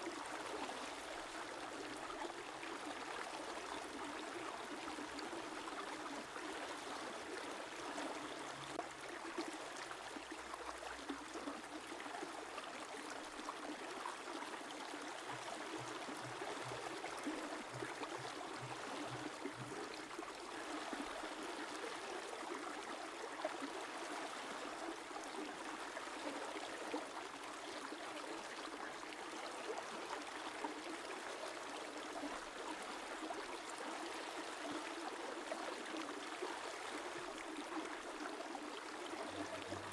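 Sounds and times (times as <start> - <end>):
river water flowing: 0.4 - 22.5, 29.6 - 39.9.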